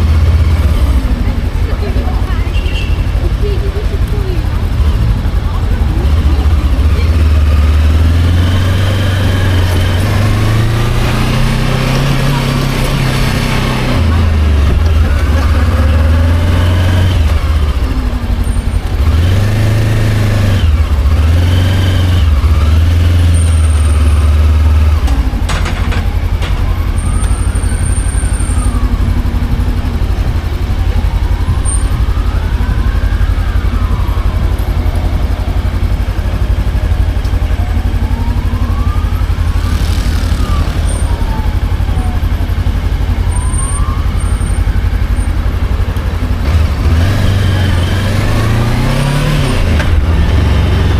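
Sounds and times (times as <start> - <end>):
motorcycle engine running: 0.0 - 50.9
road noise: 0.0 - 50.9.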